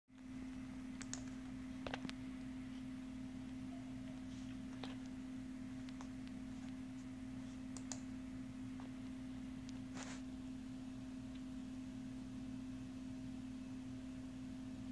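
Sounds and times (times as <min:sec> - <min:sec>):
low steady hum: 0:00.1 - 0:14.9.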